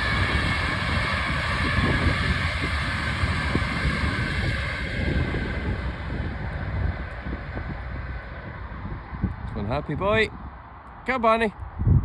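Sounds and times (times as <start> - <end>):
passing train: 0.0 - 12.0
wind buffeting microphone: 0.0 - 12.0.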